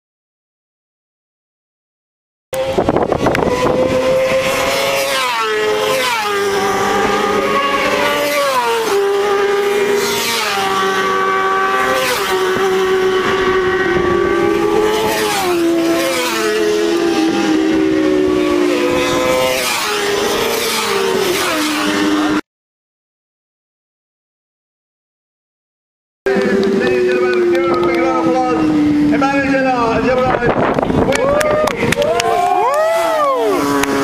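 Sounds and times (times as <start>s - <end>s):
racing motorcycles passing by: 2.6s - 22.4s, 26.3s - 34.0s.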